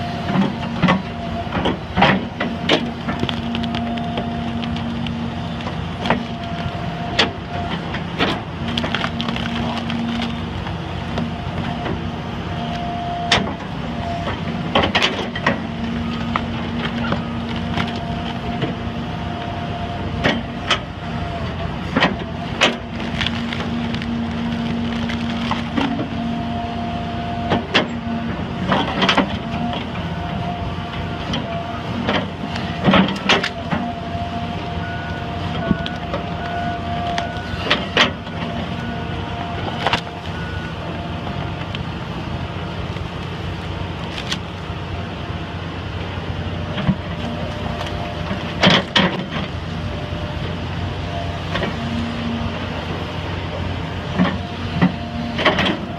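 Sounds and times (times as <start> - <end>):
heavy machinery engine running: 0.0 - 55.9.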